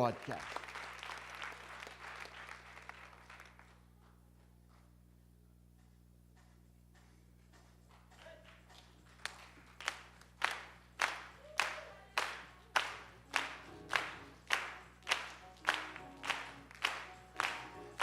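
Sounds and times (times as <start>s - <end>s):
rhythmic hand clapping: 0.0s - 4.9s, 5.8s - 18.0s.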